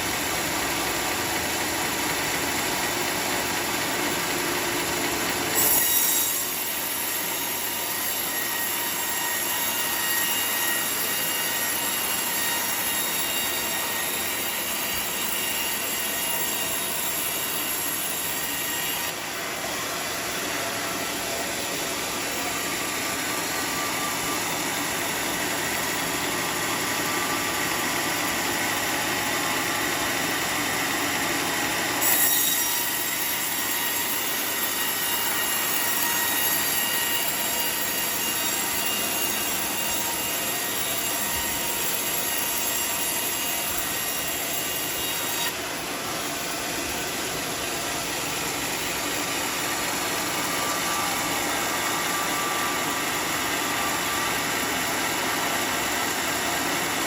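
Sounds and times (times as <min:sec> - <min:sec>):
sawmill saw drone: 0:00.0 - 0:57.0
blade squealing through wood: 0:04.2 - 0:57.0.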